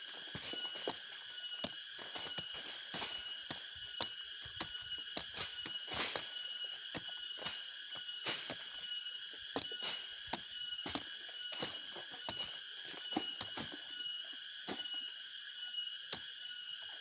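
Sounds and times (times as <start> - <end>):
high-pitched hum: 0.0 - 17.0.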